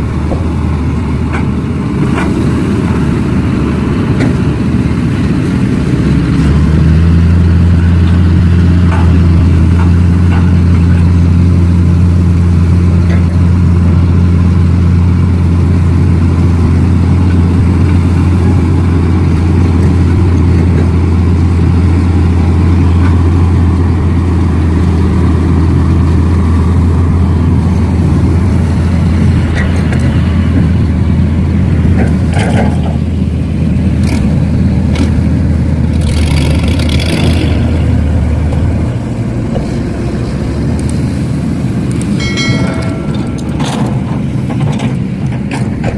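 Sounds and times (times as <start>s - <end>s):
low engine drone: 0.0s - 45.9s.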